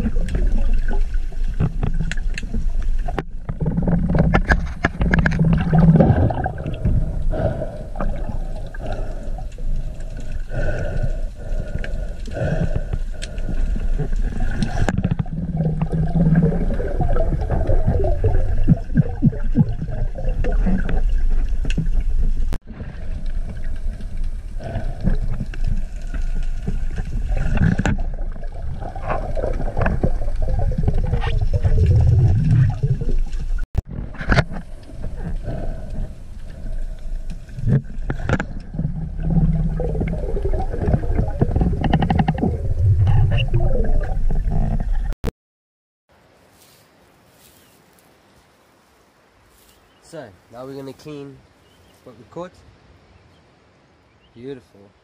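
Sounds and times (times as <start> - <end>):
underwater crackles: 0.0 - 45.2
underwater rumbling and gurgling: 0.0 - 45.2.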